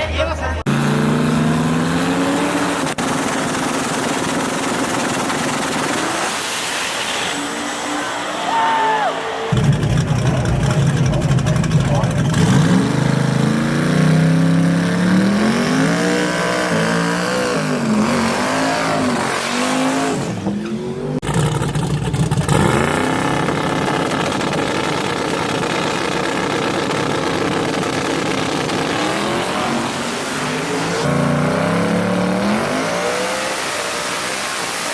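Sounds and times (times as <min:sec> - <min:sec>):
racing engines revving: 0:00.6 - 0:34.9.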